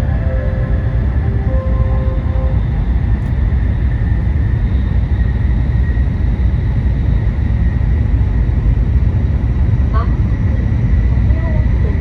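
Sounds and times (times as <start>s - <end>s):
train cabin low rumble: 0.0s - 12.0s.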